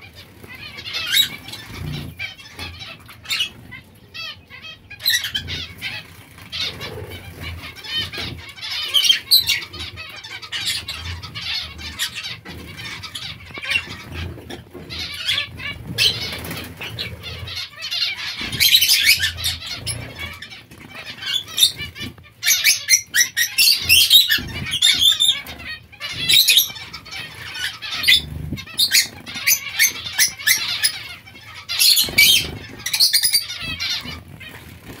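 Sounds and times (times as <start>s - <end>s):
finches chirping: 0.0s - 35.0s
wings fluttering: 0.0s - 35.0s.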